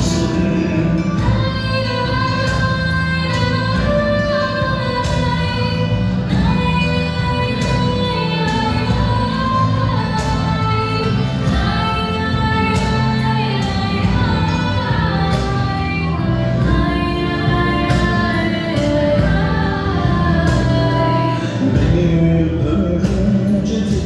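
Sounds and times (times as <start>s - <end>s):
melodic lead line: 0.0s - 24.0s.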